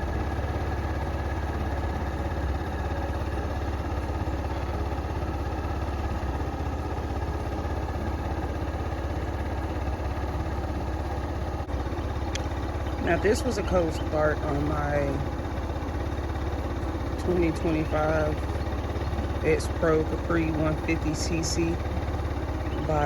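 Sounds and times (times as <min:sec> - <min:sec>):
scooter engine idling: 0:00.0 - 0:23.0.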